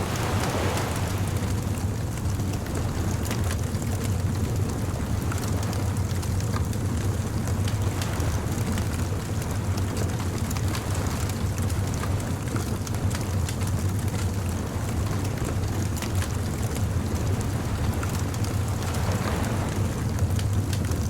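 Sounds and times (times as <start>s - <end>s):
bonfire crackling: 0.0s - 21.0s
low steady rumble: 0.0s - 21.0s.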